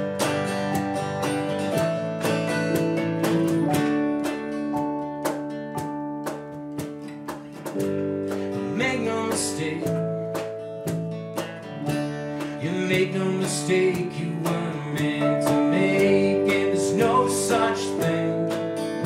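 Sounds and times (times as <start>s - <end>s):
cajon beat: 0.0s - 19.0s
electric bass: 0.0s - 19.0s
keyboard chords: 0.0s - 19.0s
strummed acoustic guitar: 0.0s - 19.0s.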